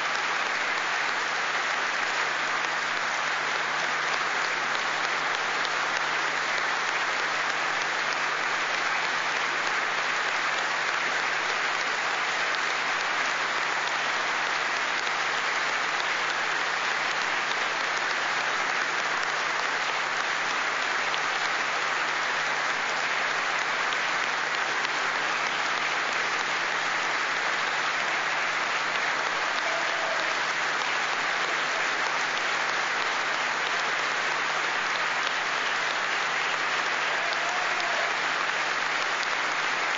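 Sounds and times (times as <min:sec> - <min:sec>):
crowd applauding: 0:00.0 - 0:39.9.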